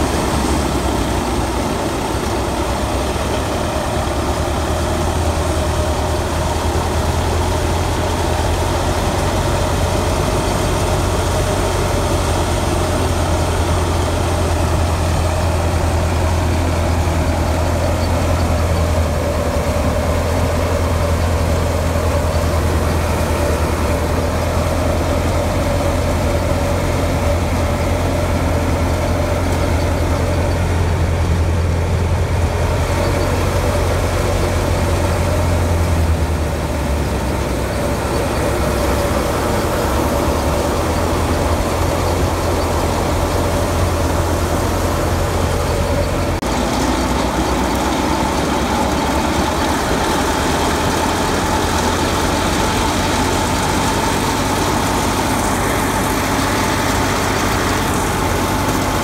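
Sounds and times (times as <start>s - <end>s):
thresher whirring hum: 0.0s - 59.0s
tractor engine drone: 0.0s - 59.0s.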